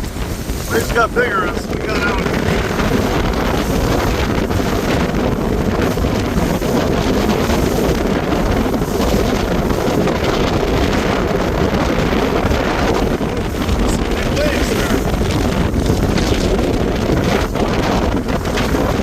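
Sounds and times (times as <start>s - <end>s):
boat running through choppy water: 0.0s - 19.0s
wind buffeting microphone: 0.0s - 19.0s.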